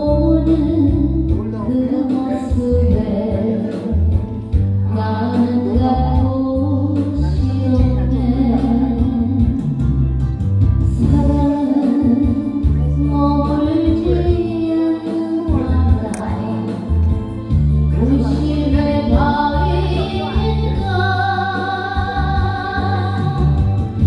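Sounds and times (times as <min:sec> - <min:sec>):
backing track with bass line: 0:00.0 - 0:24.0.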